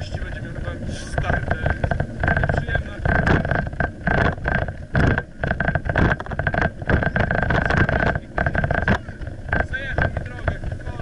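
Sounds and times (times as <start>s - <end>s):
bike rattling over brick paving: 0.0s - 11.0s
high whine: 0.0s - 11.0s
irregular knocks: 0.0s - 11.0s
wind buffeting microphone: 0.0s - 11.0s.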